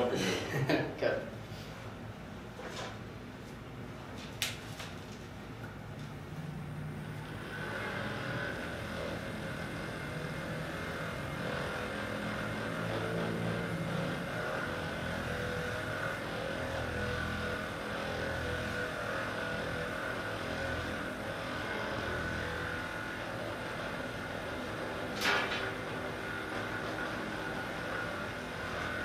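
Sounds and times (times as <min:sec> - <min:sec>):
massage gun motor whine: 0:05.7 - 0:29.0.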